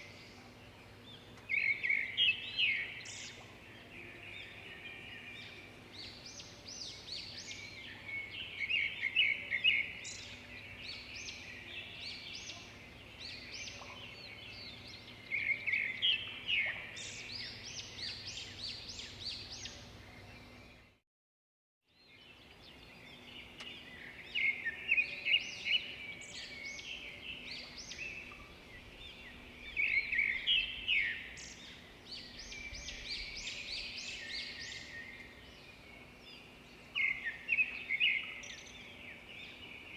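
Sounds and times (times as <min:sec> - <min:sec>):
birds chirping and singing: 0:00.0 - 0:21.0, 0:22.0 - 0:39.9.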